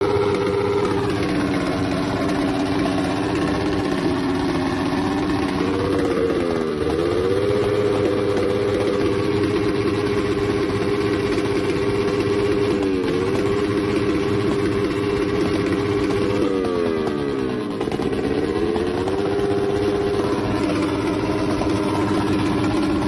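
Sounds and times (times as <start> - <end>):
small motorcycle engine running: 0.0 - 23.0.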